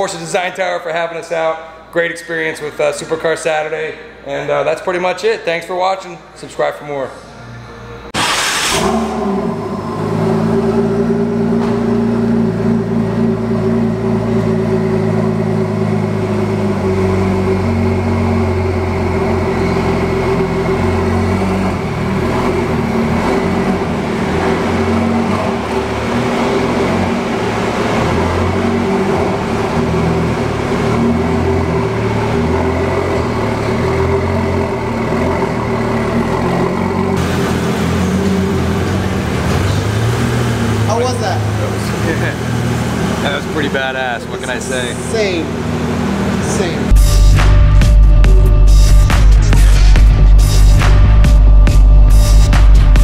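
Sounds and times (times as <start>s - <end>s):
car engine idling: 8.0s - 53.0s.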